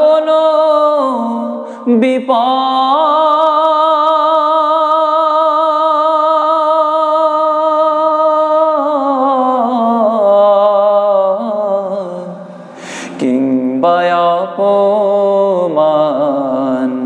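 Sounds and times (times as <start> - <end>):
man singing unaccompanied: 0.0 - 12.5, 13.1 - 17.0.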